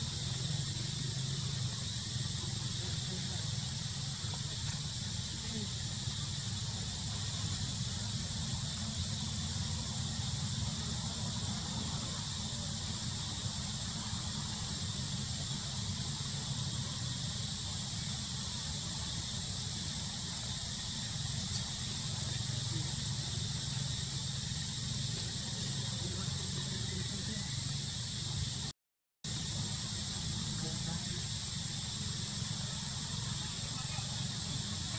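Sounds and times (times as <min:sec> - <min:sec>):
high insect drone: 0:00.0 - 0:28.7, 0:29.3 - 0:34.9
low steady rumble: 0:00.0 - 0:28.7
thin whine: 0:00.0 - 0:28.7.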